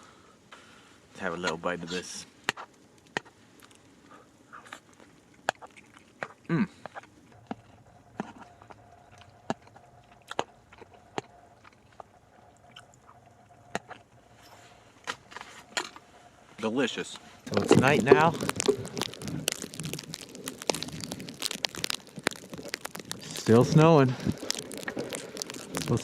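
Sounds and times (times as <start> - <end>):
chewing: 2.6 - 16.2, 17.2 - 26.0.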